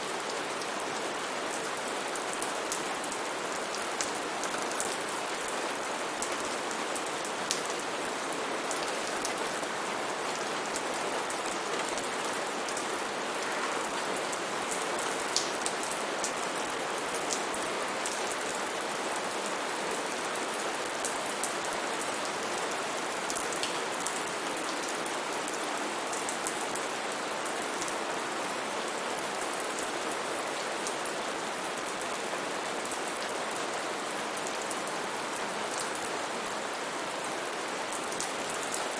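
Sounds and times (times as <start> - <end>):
heavy rain falling: 0.1 - 38.9.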